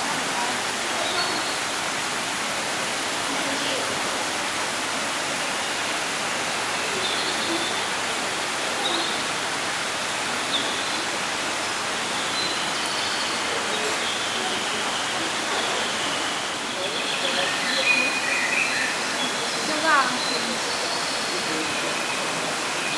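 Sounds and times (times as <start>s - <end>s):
waterfall splashing into pond: 0.0s - 22.9s.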